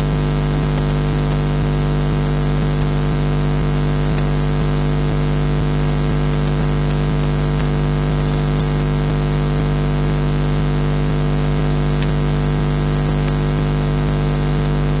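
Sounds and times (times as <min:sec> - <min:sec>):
electrical hum and buzz: 0:00.0 - 0:15.0
faint crackles and ticks: 0:00.0 - 0:15.0.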